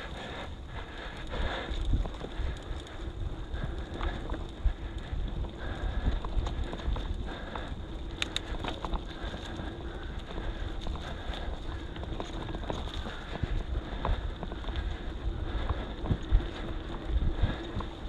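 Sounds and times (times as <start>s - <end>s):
mountain bike rattling: 0.0s - 18.0s
tyre and wind rumble: 0.0s - 18.0s.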